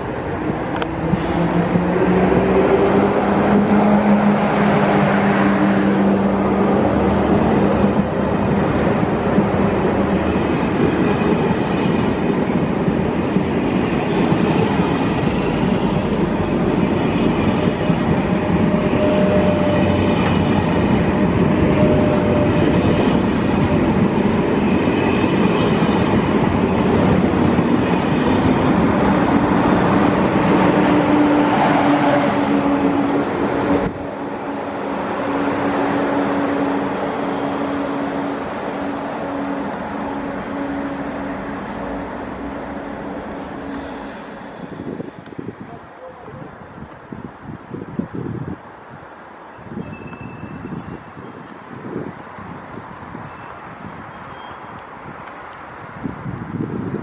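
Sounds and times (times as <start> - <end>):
train wheels rushing on rails: 0.0 - 49.1.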